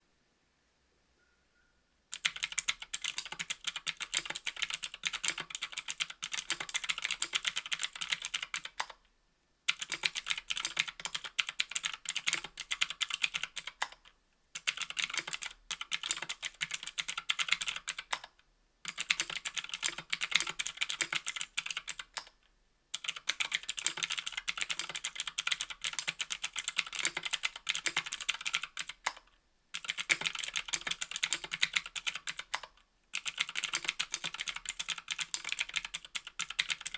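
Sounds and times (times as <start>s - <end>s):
fast typing on mechanical keyboard: 2.1s - 9.0s, 9.7s - 18.3s, 18.9s - 22.3s, 23.0s - 36.9s.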